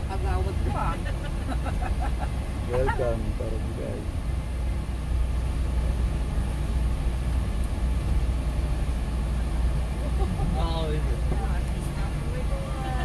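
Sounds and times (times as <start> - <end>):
van engine and road rumble: 0.0 - 13.0.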